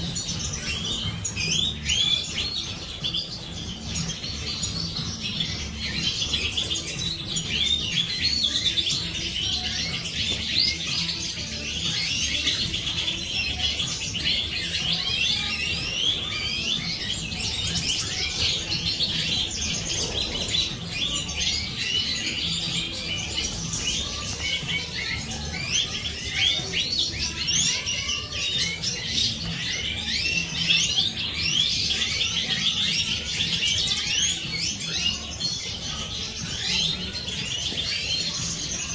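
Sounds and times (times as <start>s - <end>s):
flock of finches twittering: 0.0s - 38.9s.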